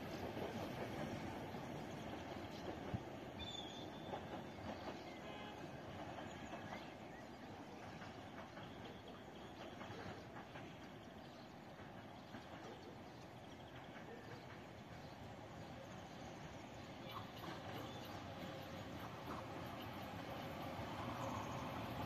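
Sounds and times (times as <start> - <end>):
distant electric locomotive running: 0.0 - 22.0.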